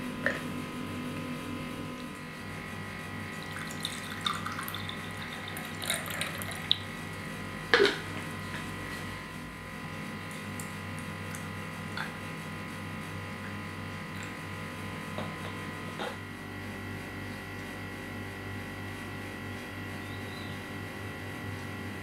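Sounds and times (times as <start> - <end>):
electrical hum with high whine: 0.0 - 22.0.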